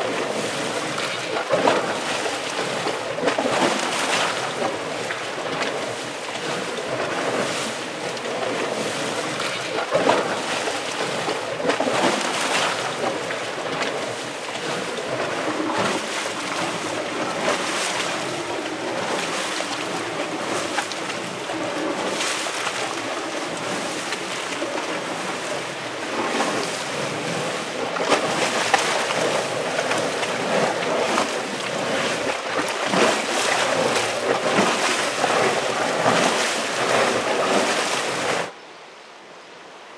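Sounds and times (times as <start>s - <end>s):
hot spring water bubbling: 0.0s - 38.6s.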